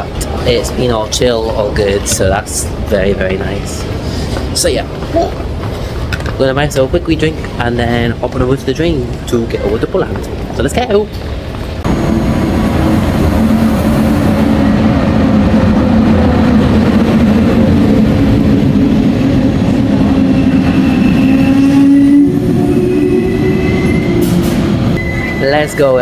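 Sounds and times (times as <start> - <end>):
train hum: 0.0 - 26.0
train rumbling past: 0.0 - 26.0.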